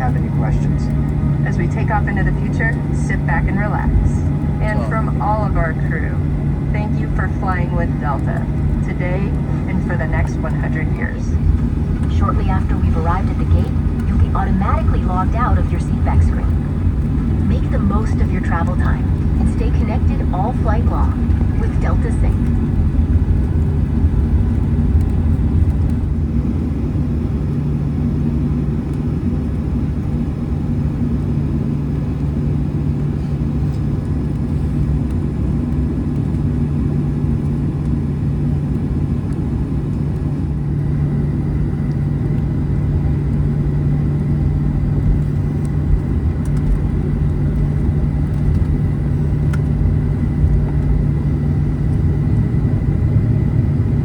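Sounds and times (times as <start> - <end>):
jet engines rumbling: 0.0 - 54.0.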